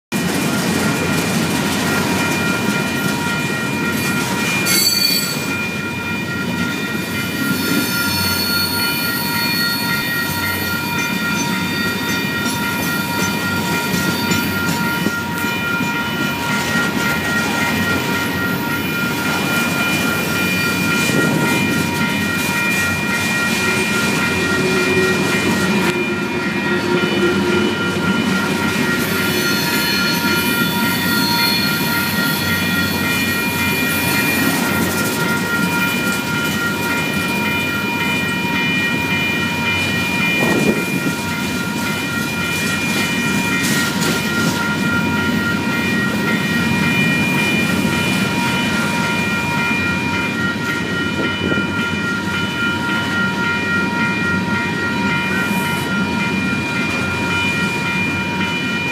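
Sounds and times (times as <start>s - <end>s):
train wheels rumbling on rail: 0.1s - 58.9s
high-pitched ringing tones: 1.9s - 58.9s.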